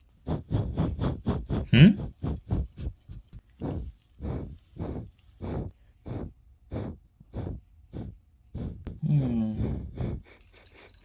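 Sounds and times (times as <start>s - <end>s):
steam locomotive chuffing: 0.2s - 11.0s.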